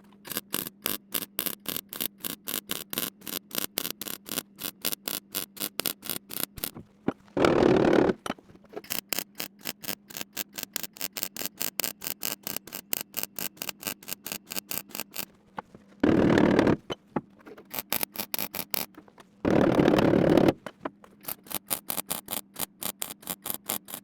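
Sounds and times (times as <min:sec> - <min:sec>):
welder steady rasp: 0:00.0 - 0:24.0.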